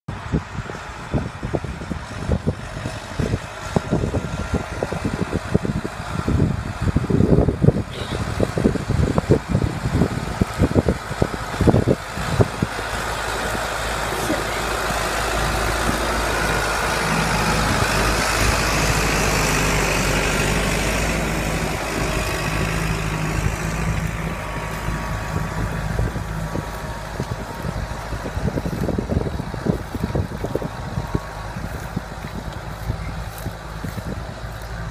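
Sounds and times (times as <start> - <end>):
tractor diesel engine under load: 0.1 - 34.9
wind buffeting microphone: 0.1 - 34.9.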